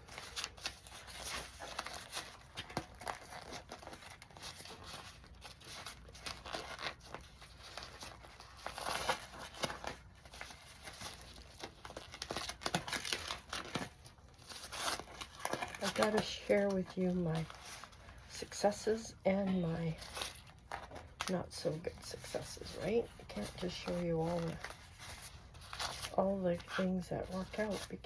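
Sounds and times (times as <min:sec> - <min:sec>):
wrapping crinkling and tearing: 0:00.0 - 0:28.0.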